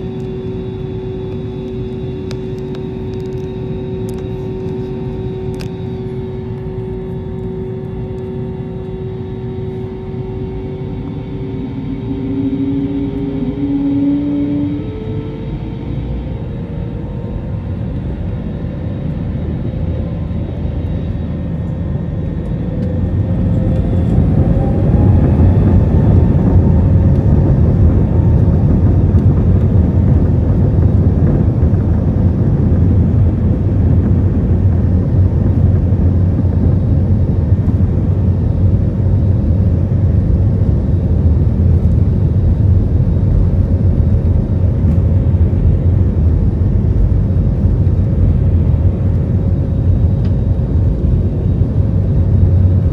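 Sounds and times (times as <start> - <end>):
jet engines spooling up: 0.0 - 52.9.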